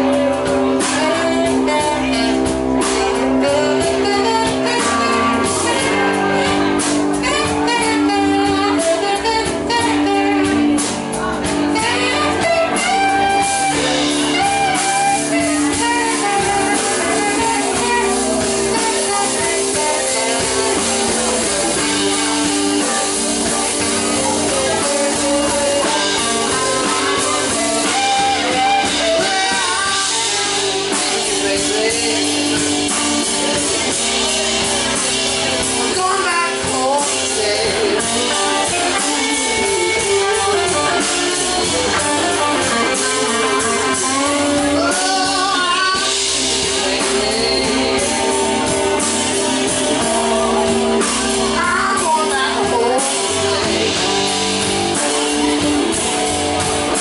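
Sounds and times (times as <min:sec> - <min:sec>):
bending electric guitar lines: 0:00.0 - 0:57.0
live blues band playing: 0:00.0 - 0:57.0.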